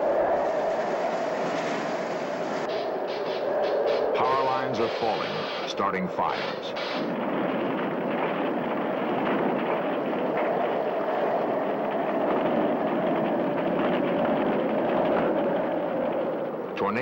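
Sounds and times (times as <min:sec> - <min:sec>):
hurricane wind howling: 0:00.0 - 0:17.0.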